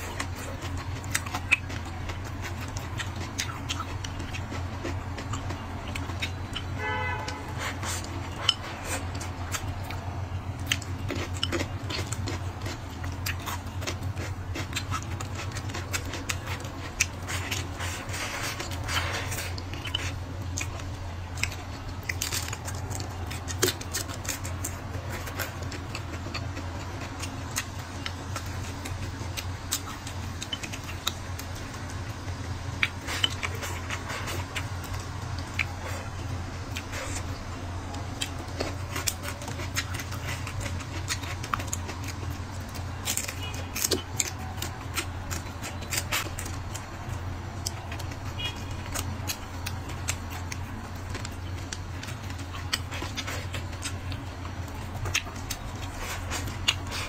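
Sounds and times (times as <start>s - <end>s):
chewing: 0.0s - 57.0s
steady low hum: 0.0s - 57.0s.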